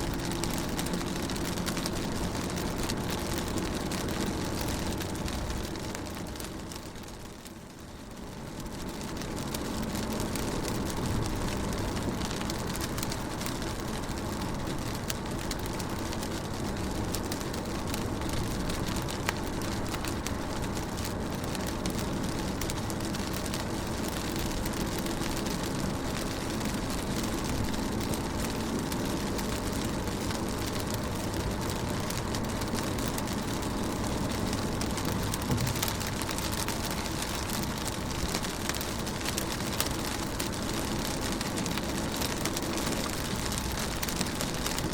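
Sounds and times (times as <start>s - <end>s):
rain falling on a car: 0.0s - 44.9s.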